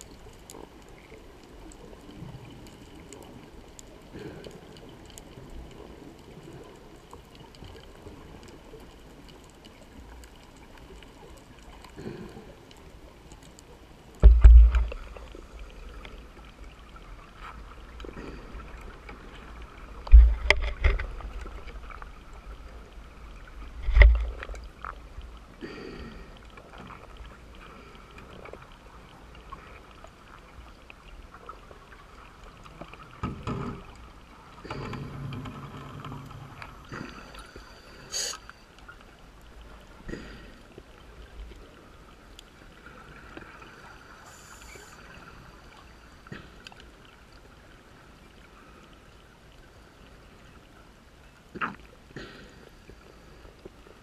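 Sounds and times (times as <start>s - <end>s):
faint underwater gurgling: 0.0s - 54.0s.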